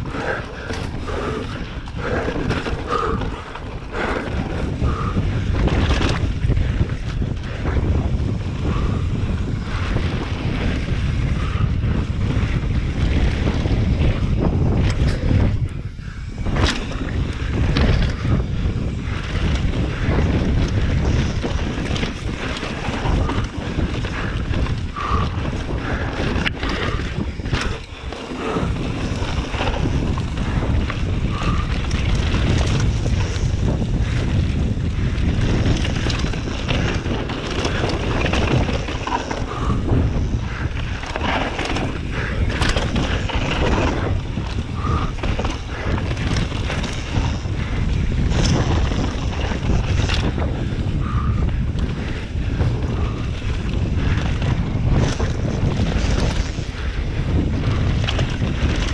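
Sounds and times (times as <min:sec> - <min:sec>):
bike rattling: 0:00.0 - 0:58.9
wind noise on microphone: 0:00.0 - 0:58.9.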